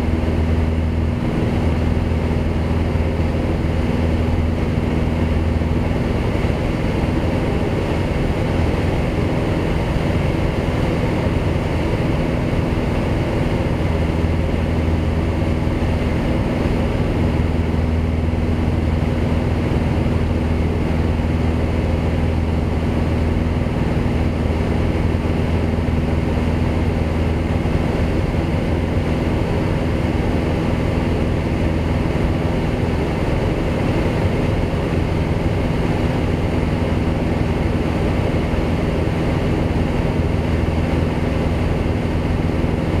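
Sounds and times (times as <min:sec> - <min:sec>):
light aircraft engine droning: 0:00.0 - 0:43.0.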